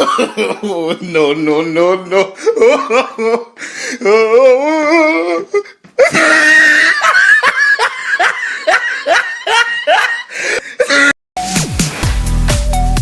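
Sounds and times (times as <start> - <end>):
person laughing hard: 0.0 - 11.2.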